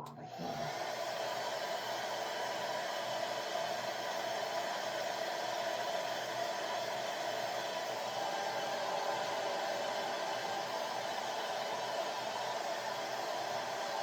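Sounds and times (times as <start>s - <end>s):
hair dryer blowing: 0.0s - 14.0s.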